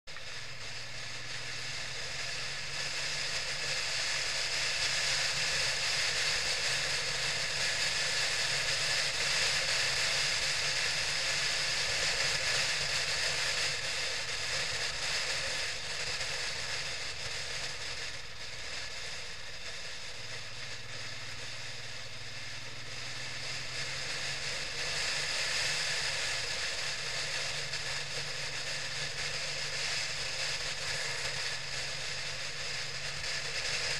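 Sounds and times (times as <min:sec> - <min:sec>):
motorcycle engine drone: 0:00.0 - 0:33.9
wind and road noise hiss: 0:00.1 - 0:33.9.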